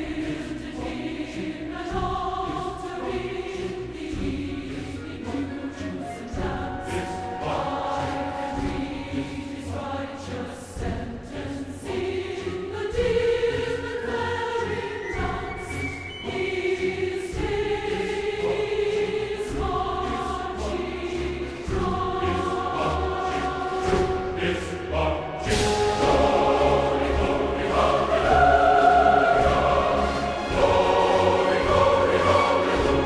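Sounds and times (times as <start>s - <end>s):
choir singing held chords: 0.0s - 33.0s.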